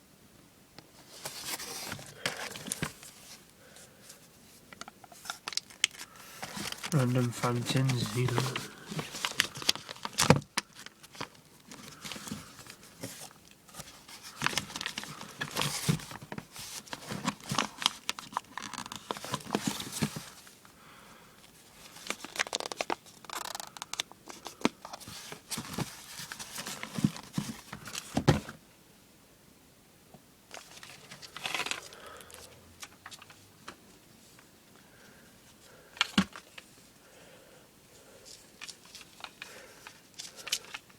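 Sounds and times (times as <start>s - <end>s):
packaging crinkling and rustling: 1.0s - 20.6s, 21.5s - 28.5s, 30.5s - 34.4s, 38.3s - 40.9s.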